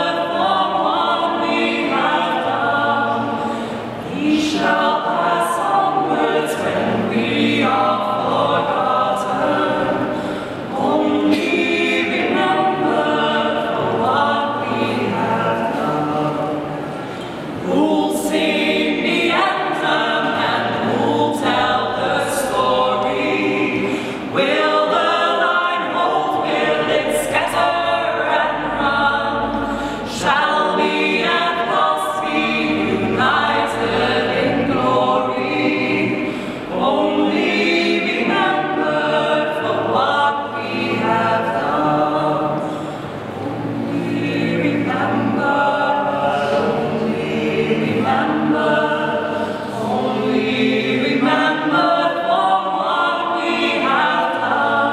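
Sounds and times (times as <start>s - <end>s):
a cappella group singing in harmony: 0.0s - 54.9s.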